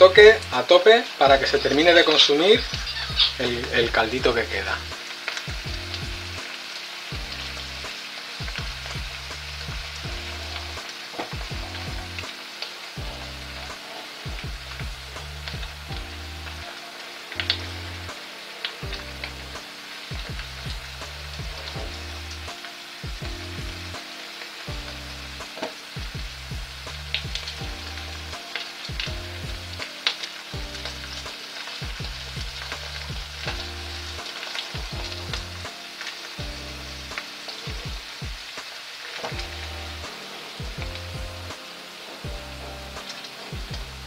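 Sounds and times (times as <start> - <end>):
rice bubbling and sizzling in pan: 0.0 - 44.0
soft background music: 0.0 - 44.0.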